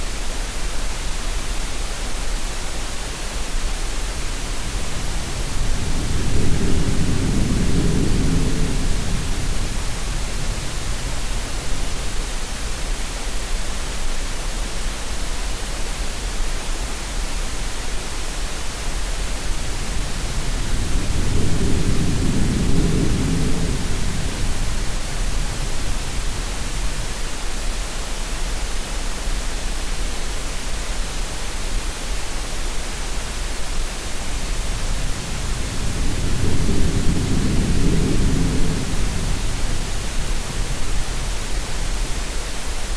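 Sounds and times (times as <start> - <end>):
steady green noise hiss: 0.0 - 42.9.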